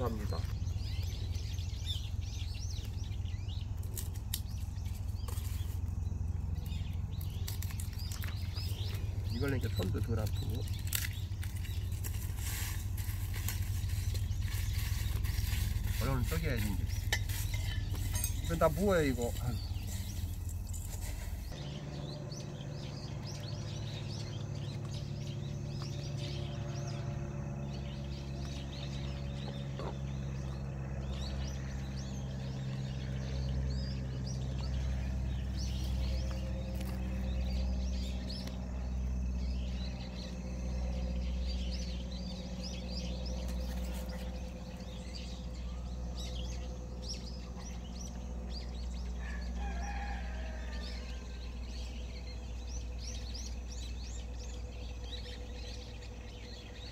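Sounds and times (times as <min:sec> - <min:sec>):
small birds chirping: 0:00.0 - 0:56.9
steady low hum: 0:00.0 - 0:56.9.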